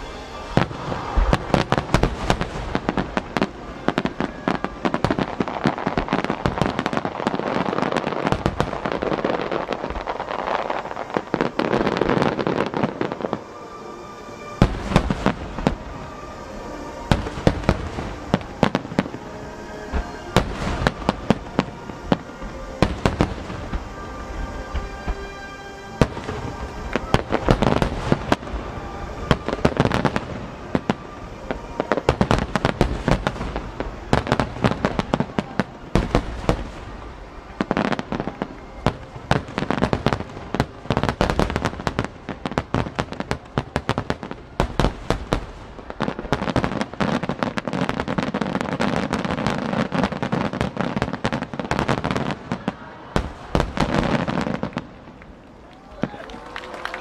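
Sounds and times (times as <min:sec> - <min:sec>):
fireworks bursting with crackle: 0:00.0 - 0:57.0.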